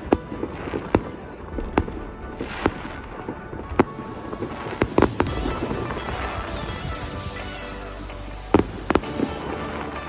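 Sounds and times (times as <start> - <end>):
firework pops and crackles: 0.0 - 7.0, 8.5 - 9.9
firework shells bursting: 0.0 - 7.1, 8.4 - 9.9.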